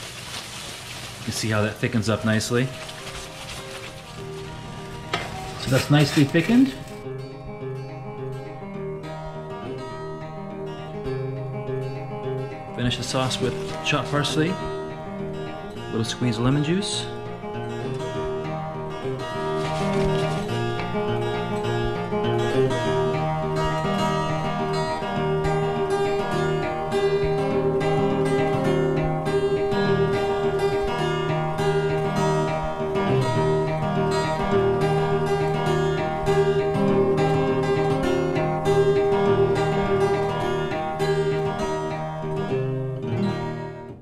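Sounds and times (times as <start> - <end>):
acoustic guitar strummed and plucked: 1.2 - 44.0.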